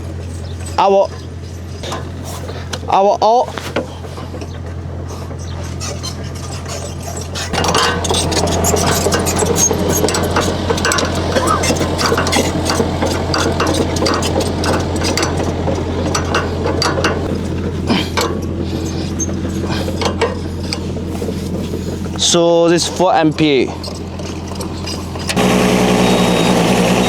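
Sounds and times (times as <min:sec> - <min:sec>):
excavator engine droning: 0:00.0 - 0:27.0
hydraulic pump working: 0:00.0 - 0:27.0
clatter of clicks and knocks: 0:03.6 - 0:25.5.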